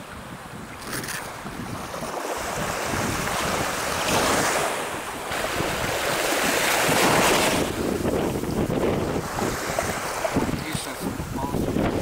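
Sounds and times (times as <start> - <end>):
small sea waves washing in: 0.0 - 12.0
wind buffeting microphone: 0.0 - 12.0.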